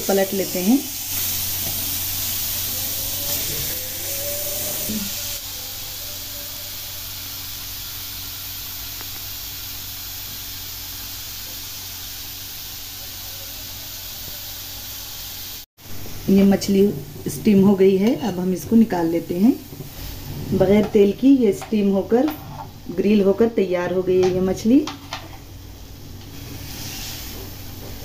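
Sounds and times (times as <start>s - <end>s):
fish sizzling on a grill pan: 0.0s - 16.2s, 18.0s - 23.2s, 24.6s - 28.0s.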